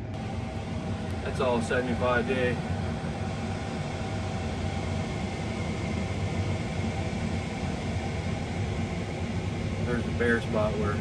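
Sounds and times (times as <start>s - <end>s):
machinery humming with high whine: 0.0s - 11.0s.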